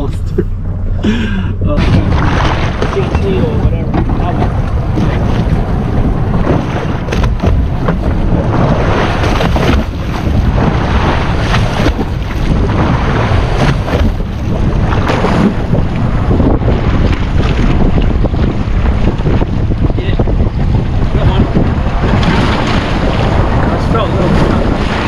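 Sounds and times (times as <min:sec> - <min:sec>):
wind buffeting microphone: 0:00.0 - 0:25.0
waves slapping against boat hull: 0:01.6 - 0:25.0.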